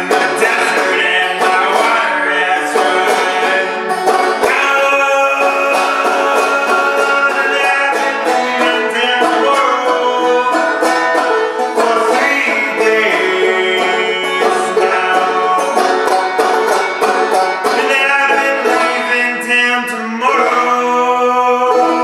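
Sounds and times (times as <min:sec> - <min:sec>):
banjo played clawhammer style: 0:00.0 - 0:22.0.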